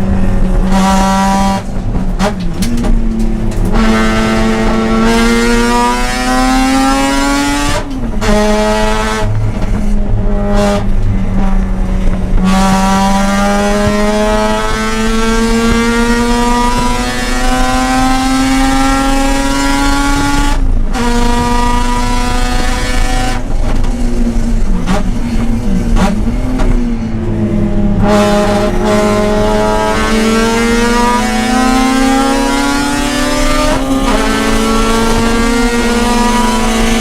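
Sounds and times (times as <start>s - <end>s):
rotary engine revving: 0.0s - 37.0s.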